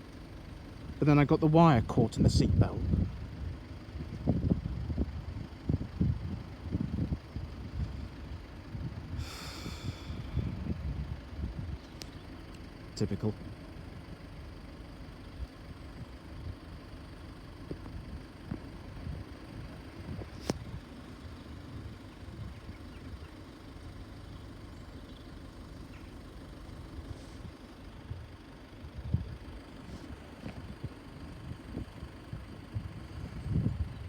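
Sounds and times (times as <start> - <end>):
vehicle engines rumbling: 0.0 - 34.0.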